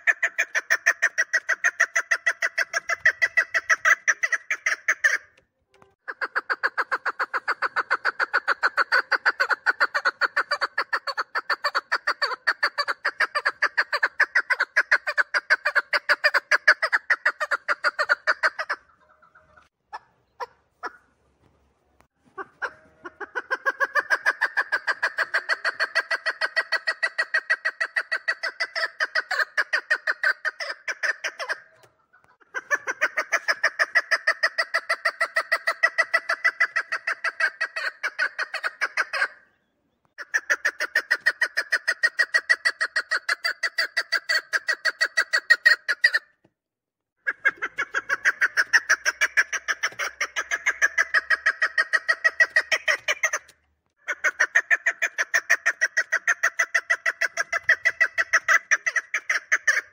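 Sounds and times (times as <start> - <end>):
partridge calling: 0.0 - 5.4, 6.0 - 21.2, 22.2 - 46.3, 47.2 - 59.9.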